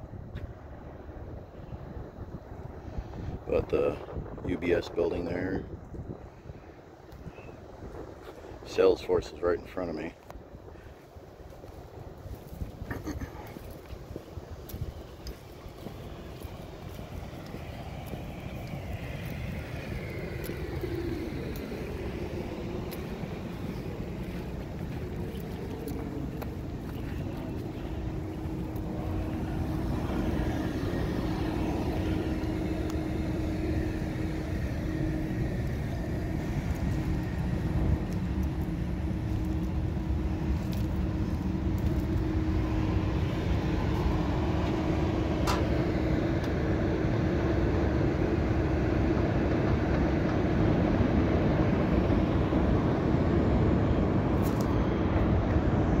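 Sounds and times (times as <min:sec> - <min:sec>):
city traffic rumble: 0:00.0 - 0:56.0
steady hum: 0:00.0 - 0:56.0
wind: 0:00.0 - 0:56.0.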